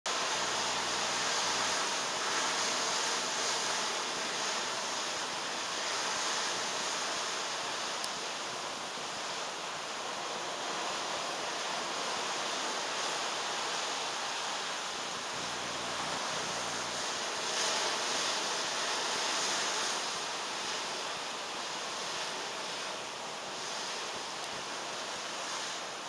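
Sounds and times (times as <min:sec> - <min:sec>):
wind and sea rushing: 0:00.1 - 0:26.0.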